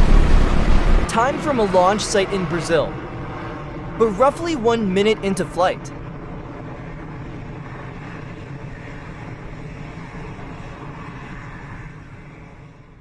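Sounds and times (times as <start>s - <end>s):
rocket engine rumble: 0.0s - 12.9s.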